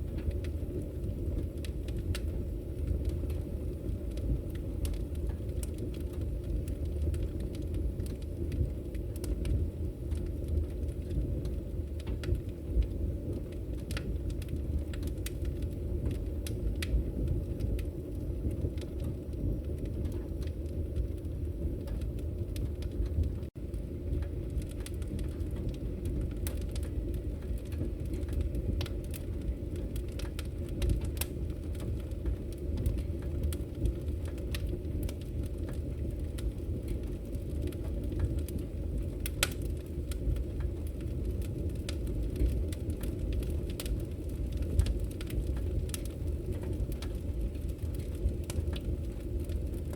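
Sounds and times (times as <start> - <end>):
fire roaring: 0.0 - 49.9
logs crackling and popping: 0.0 - 49.9.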